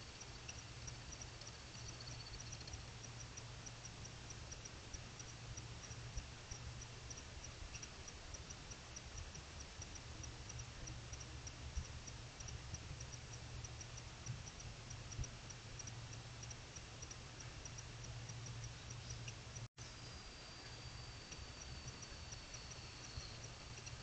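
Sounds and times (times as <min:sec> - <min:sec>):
insects chirping: 0:00.0 - 0:24.0
low hum and hiss: 0:00.0 - 0:24.0.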